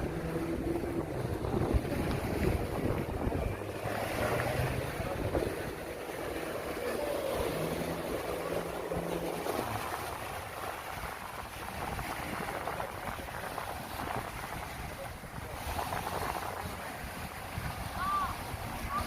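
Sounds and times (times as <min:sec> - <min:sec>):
sea surf: 0:00.0 - 0:19.0
wind buffeting microphone: 0:00.0 - 0:19.0.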